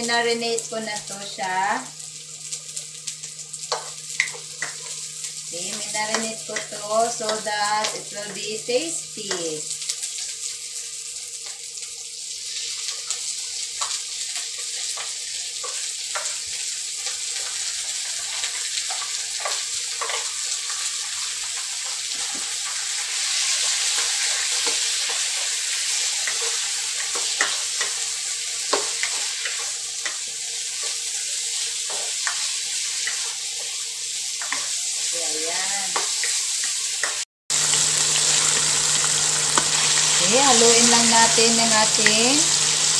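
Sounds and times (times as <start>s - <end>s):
meat sizzling in a wok: 0.0s - 42.9s.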